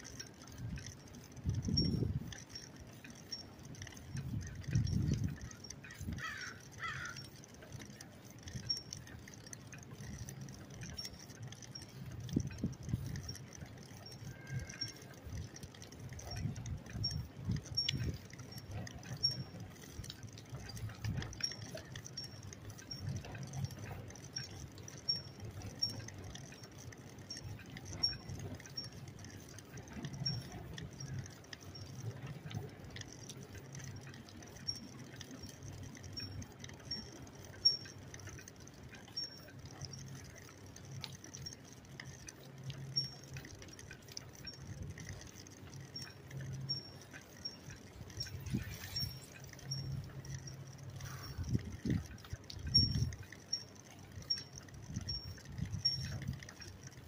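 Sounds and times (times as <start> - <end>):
bicycle rattling over rough ground: 0.0 - 57.0
faint light ticking: 0.0 - 57.0.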